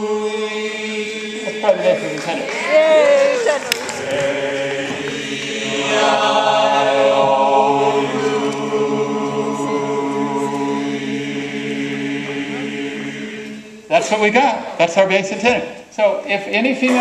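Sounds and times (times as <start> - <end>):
male choir singing held chord: 0.0 - 14.0.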